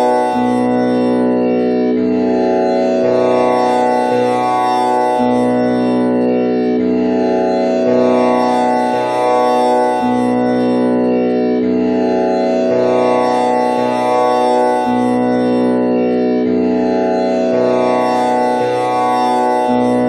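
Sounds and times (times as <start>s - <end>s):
tanpura drone: 0.0s - 20.0s.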